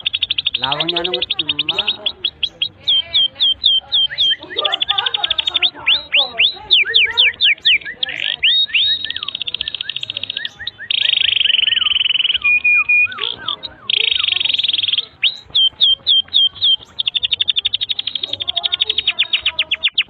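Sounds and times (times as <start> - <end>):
canary singing: 0.0 - 20.0.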